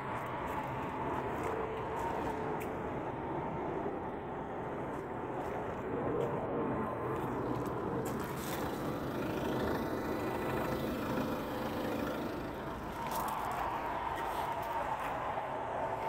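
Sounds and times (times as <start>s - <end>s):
outdoor background noise: 0.0s - 16.0s
vehicle rumble: 0.0s - 16.0s.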